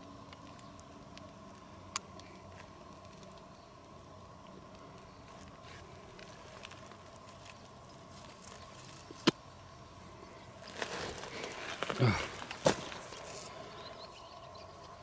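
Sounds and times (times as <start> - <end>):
gravel pebbles clicking: 0.0 - 9.4, 10.4 - 15.0
faint steady hum: 0.0 - 15.0.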